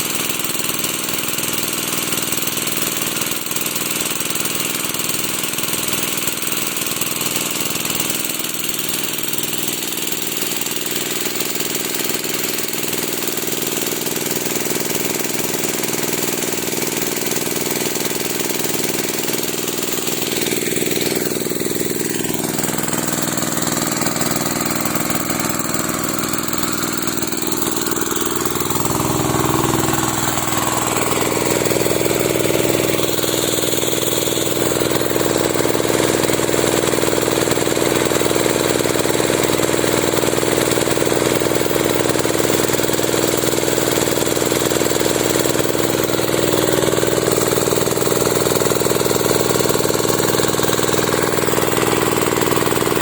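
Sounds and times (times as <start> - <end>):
small sprayer engine running: 0.0 - 53.0.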